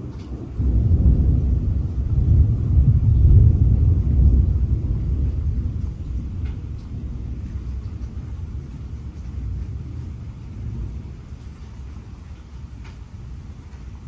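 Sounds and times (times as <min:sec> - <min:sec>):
rolling thunder: 0:00.0 - 0:14.0.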